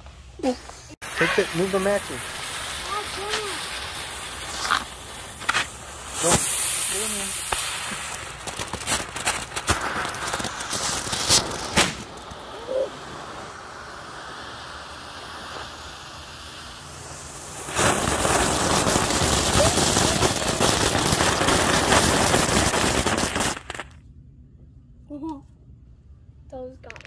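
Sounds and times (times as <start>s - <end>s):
firework crackling and hissing: 0.0s - 24.0s.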